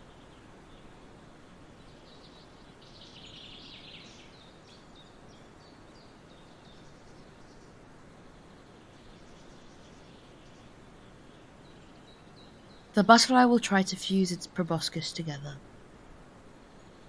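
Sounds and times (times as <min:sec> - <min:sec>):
small birds chirping: 0:00.0 - 0:15.6
faint outdoor hiss: 0:00.0 - 0:17.0.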